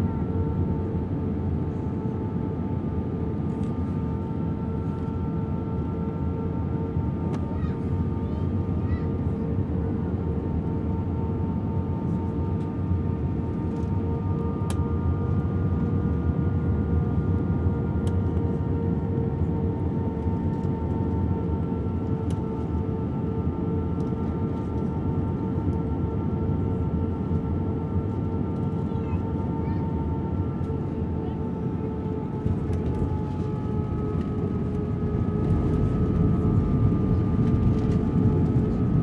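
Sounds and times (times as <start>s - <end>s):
airliner cabin rumble: 0.1s - 39.0s.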